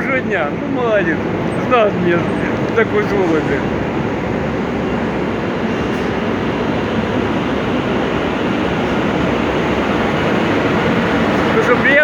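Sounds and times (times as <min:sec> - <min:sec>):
train rumbling past on track: 0:00.0 - 0:12.0.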